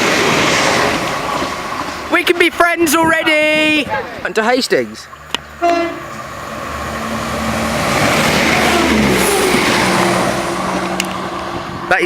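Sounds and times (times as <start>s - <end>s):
passenger train passing at speed: 0.0s - 12.0s.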